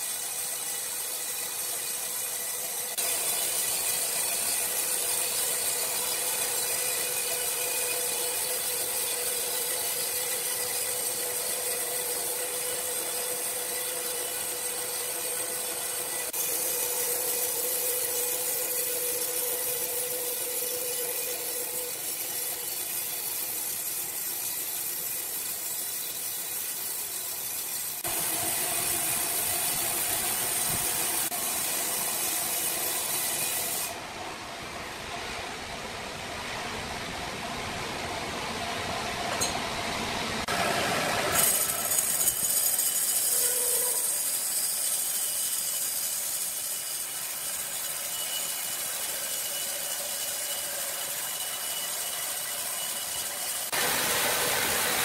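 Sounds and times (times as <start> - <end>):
band saw cutting log: 0.0 - 34.0, 40.4 - 55.0.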